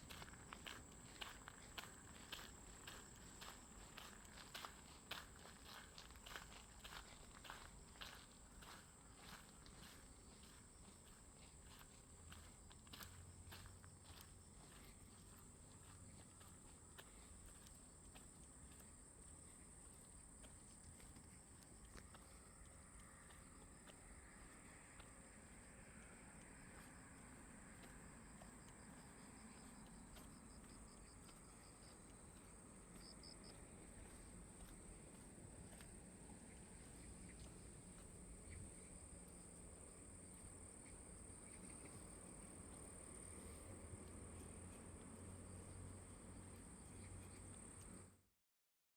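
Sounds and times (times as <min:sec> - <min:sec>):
insects chorus: 0:00.0 - 0:48.2.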